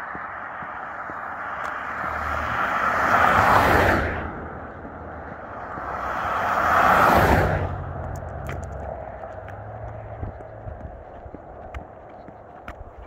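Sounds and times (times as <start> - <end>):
trucks driving past: 0.0 - 13.0.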